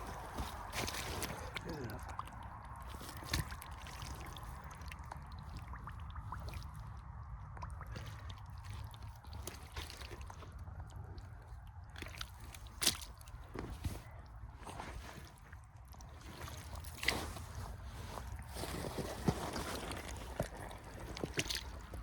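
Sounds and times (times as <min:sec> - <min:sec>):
mud splat: 0:00.0 - 0:11.2, 0:11.9 - 0:22.0
rubber boots squelching in mud: 0:00.0 - 0:22.0
small wet clicks: 0:00.2 - 0:17.3, 0:19.7 - 0:22.0.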